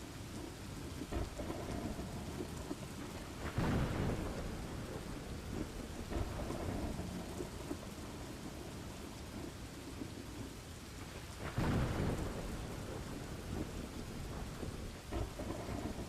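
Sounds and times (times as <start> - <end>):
steady rain: 0.0 - 16.0
thunder rumble: 0.0 - 16.0.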